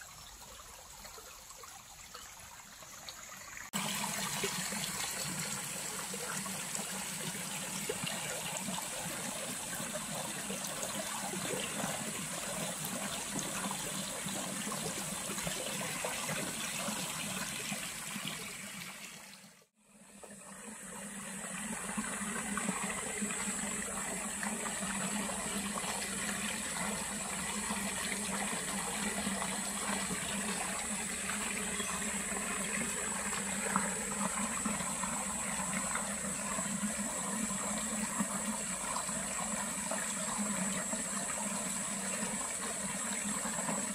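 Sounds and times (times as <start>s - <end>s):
stream trickling over stones: 0.0s - 43.9s.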